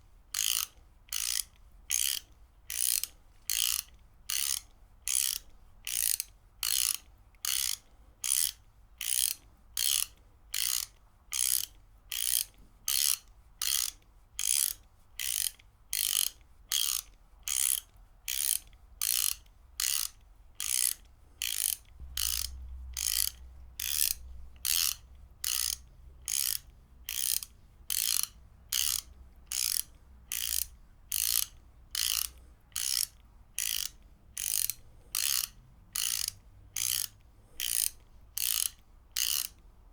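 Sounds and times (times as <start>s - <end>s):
ratchet wrench clicking: 0.3s - 39.6s.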